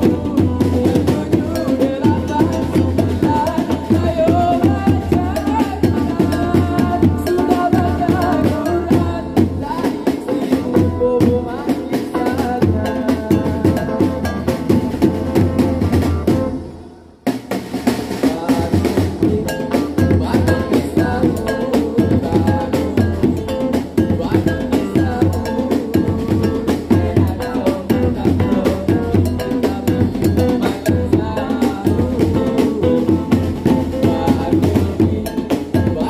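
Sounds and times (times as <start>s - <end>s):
fast drum and percussion music: 0.0s - 36.0s.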